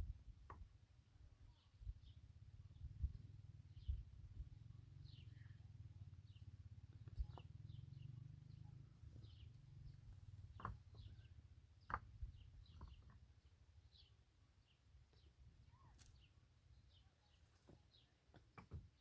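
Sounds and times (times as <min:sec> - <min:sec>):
faint small bird chirps: 0:00.0 - 0:19.0.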